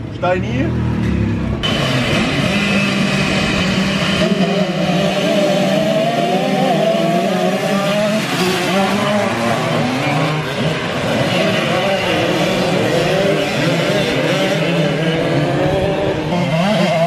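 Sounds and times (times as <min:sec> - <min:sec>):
motocross bikes revving and accelerating: 0:00.0 - 0:17.0.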